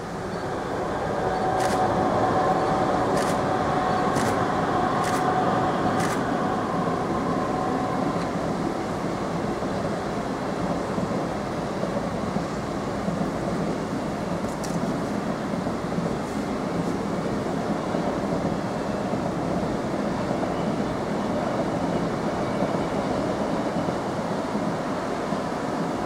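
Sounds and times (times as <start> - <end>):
electric locomotive whine: 0.0 - 26.0
train wheels rumbling on rail: 0.0 - 26.0.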